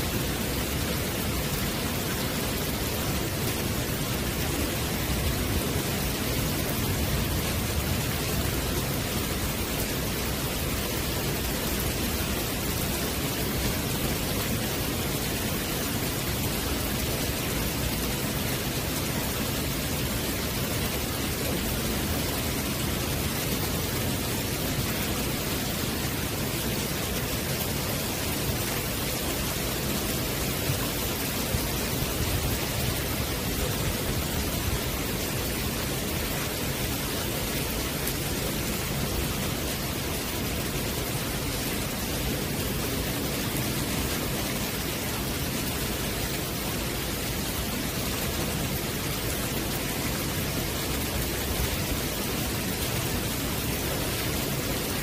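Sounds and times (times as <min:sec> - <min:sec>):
rain on wooden deck: 0:00.0 - 0:55.0.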